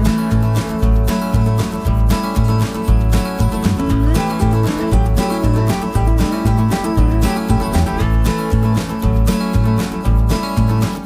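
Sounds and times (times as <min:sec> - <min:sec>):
country-style guitar music: 0:00.0 - 0:11.0.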